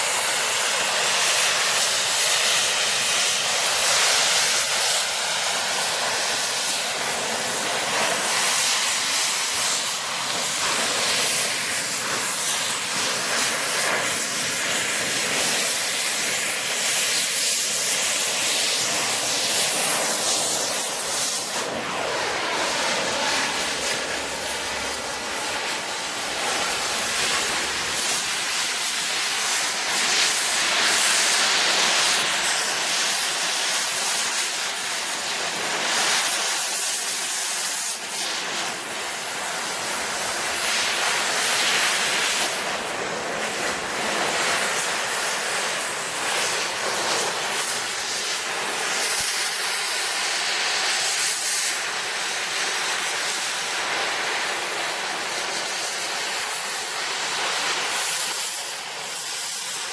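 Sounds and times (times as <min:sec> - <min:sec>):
cutting torch hissing: 0:00.0 - 0:59.9.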